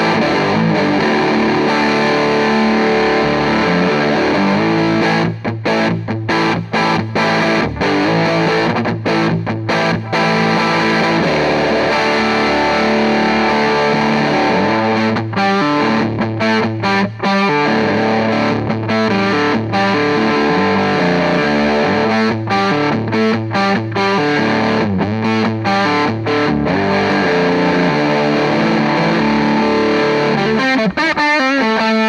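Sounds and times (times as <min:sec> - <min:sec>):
distorted electric guitar riff: 0:00.0 - 0:32.0.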